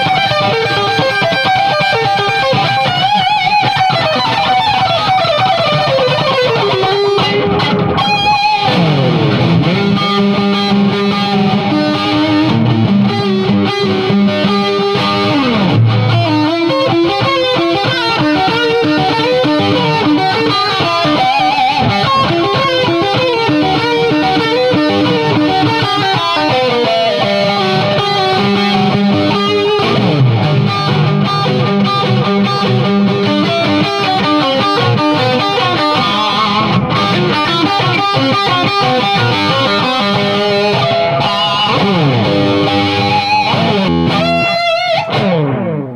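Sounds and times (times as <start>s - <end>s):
electric guitar lead with vibrato: 0.0s - 45.9s.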